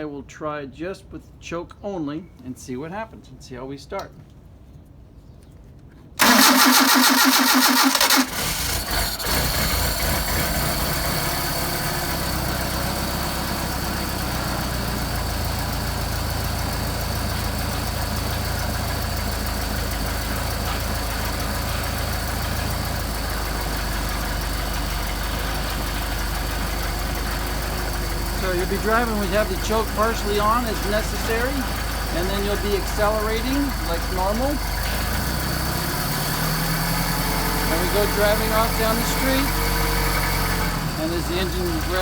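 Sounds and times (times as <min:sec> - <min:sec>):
car engine idling: 0:06.2 - 0:42.0
starter motor cranking: 0:06.2 - 0:42.0.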